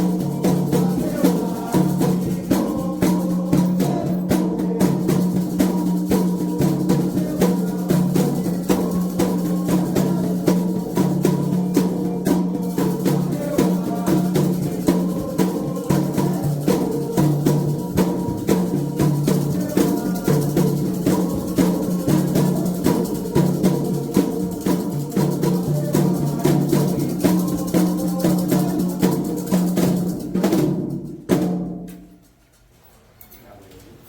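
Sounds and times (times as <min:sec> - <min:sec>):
hand drums playing: 0:00.0 - 0:31.9.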